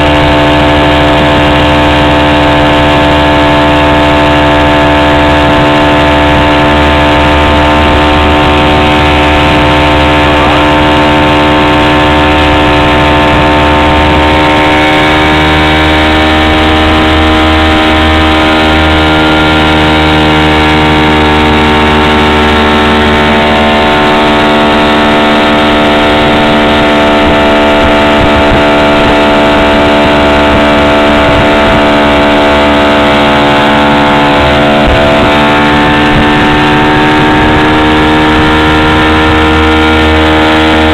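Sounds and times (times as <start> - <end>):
motorboat engine running: 0.0 - 40.9.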